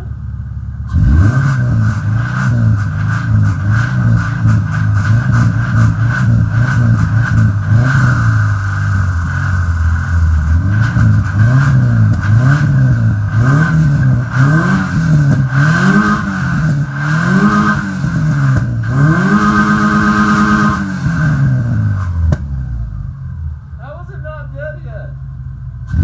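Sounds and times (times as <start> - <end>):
car engine revving: 0.8 - 24.1, 25.2 - 26.0.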